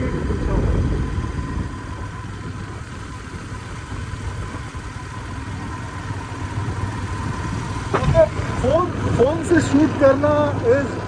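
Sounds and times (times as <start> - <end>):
motorcycle engine drone: 0.0 - 11.0
wind buffeting microphone: 0.0 - 11.0.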